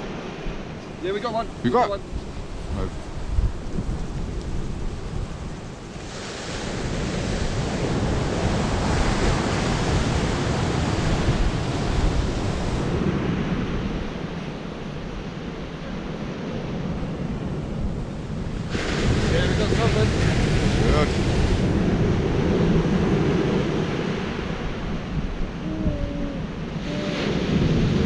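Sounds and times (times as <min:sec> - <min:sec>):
surf breaking on beach: 0:00.0 - 0:25.7, 0:26.4 - 0:28.0
wind buffeting microphone: 0:00.0 - 0:28.0.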